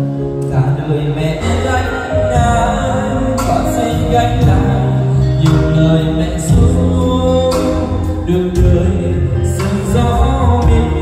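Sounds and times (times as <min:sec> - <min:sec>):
song with singing and beat: 0:00.0 - 0:11.0.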